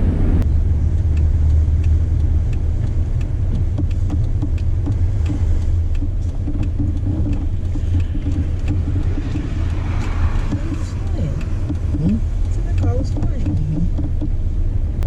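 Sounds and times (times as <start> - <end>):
engine and road rumble: 0.0 - 15.0
light ticking: 0.4 - 15.0.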